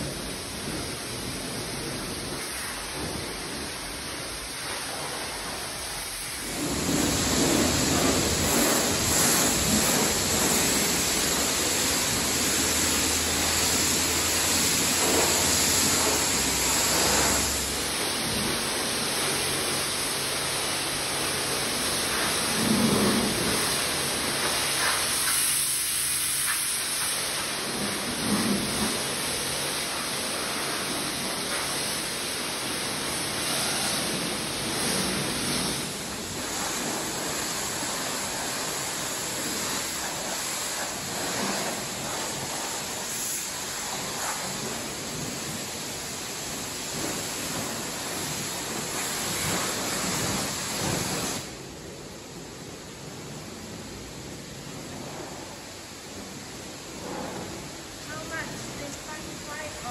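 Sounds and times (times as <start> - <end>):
pressure washer spraying car: 0.0 - 59.9.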